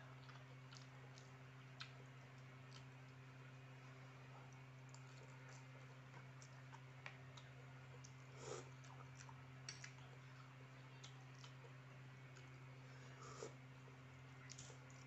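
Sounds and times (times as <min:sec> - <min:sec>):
steady low hum: 0:00.0 - 0:15.0
chewing noodles: 0:00.1 - 0:15.0.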